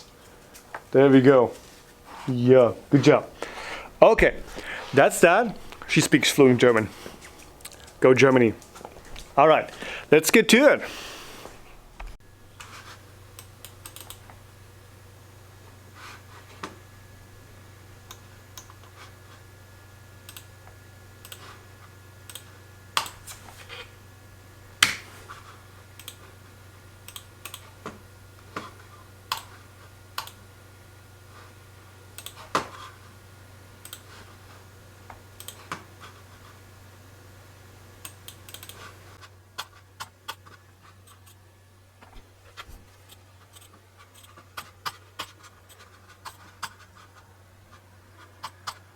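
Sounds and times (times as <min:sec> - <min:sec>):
low electrical hum: 0:00.0 - 0:48.9.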